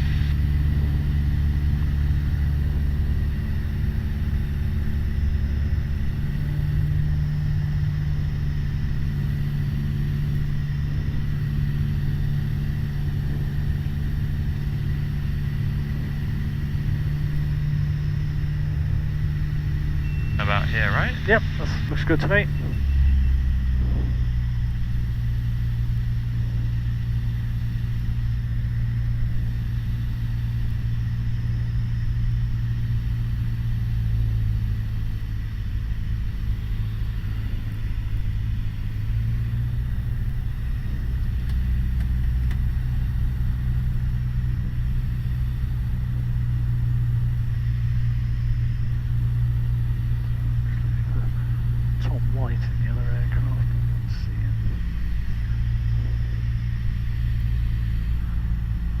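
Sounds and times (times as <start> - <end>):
aircraft engine and propeller droning: 0.0 - 59.0.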